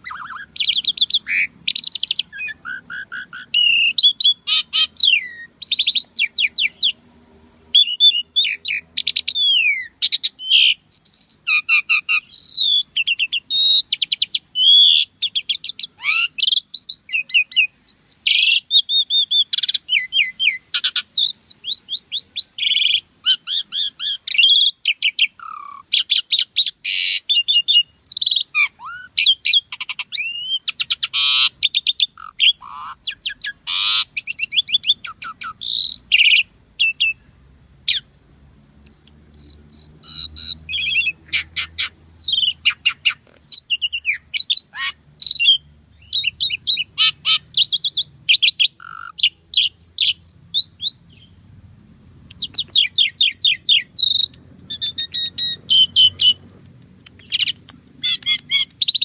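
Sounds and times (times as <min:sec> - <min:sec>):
starling singing: 0:00.0 - 0:37.3, 0:37.9 - 0:38.1, 0:38.9 - 0:51.4, 0:52.3 - 0:59.0.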